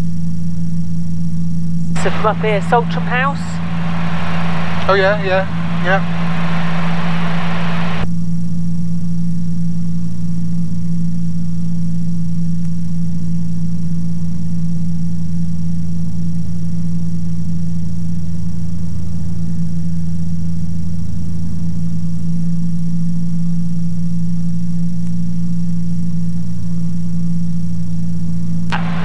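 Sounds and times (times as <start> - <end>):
aircraft engine and propeller hum: 0.0 - 15.7, 17.0 - 29.0.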